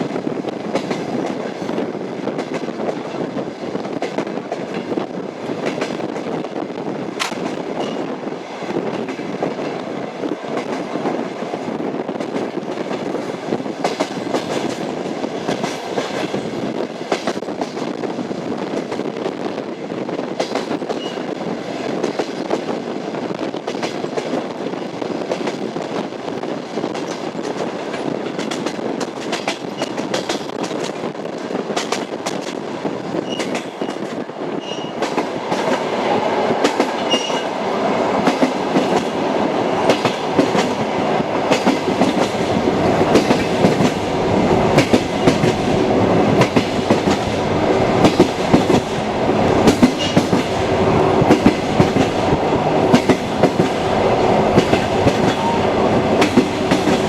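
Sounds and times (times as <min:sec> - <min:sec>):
train rolling rumble: 0:00.0 - 0:57.0
train wheels clacking on rails: 0:00.0 - 0:57.0.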